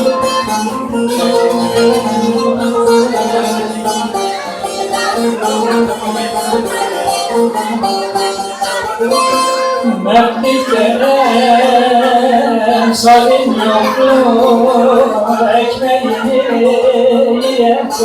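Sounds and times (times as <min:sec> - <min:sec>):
plucked long-necked lute melody: 0:00.0 - 0:18.0.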